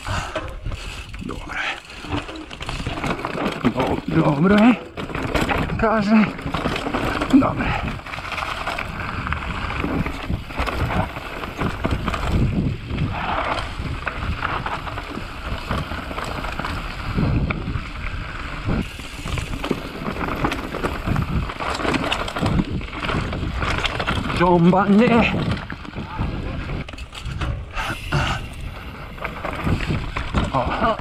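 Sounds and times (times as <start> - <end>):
bike knocks and rattles: 0.0 - 31.0
tyre and wind rush: 0.0 - 31.0.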